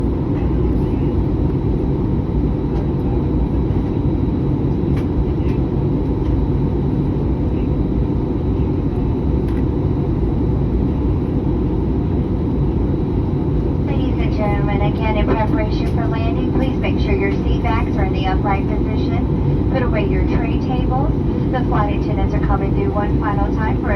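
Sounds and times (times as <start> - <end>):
aircraft cabin engine roar: 0.0 - 23.9.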